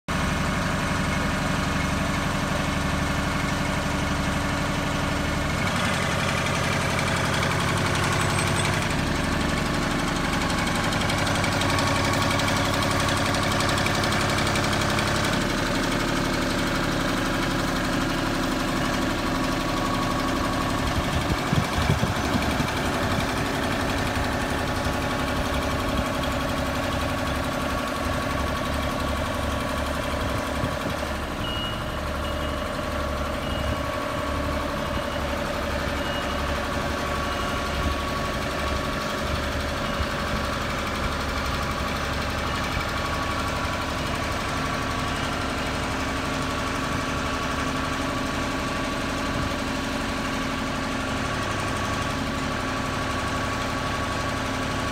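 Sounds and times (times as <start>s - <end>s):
boom lift engine running: 0.1s - 54.9s.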